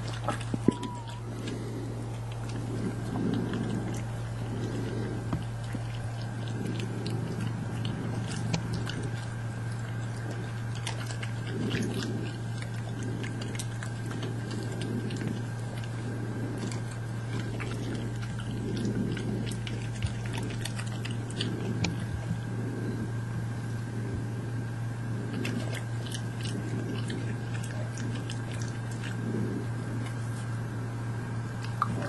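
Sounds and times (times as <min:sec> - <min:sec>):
badgers crunching nuts: 0:00.0 - 0:24.4, 0:25.1 - 0:30.6, 0:31.6 - 0:32.0
low hum: 0:00.0 - 0:32.0.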